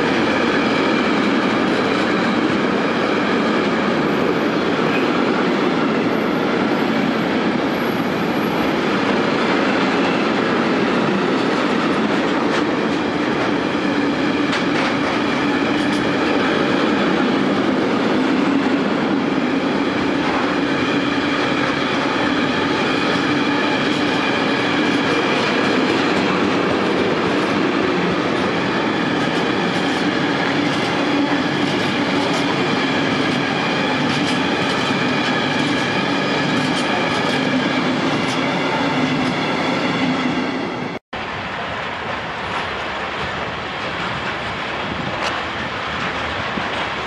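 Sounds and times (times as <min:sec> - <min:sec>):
freight train rolling on rails: 0:00.0 - 0:47.0.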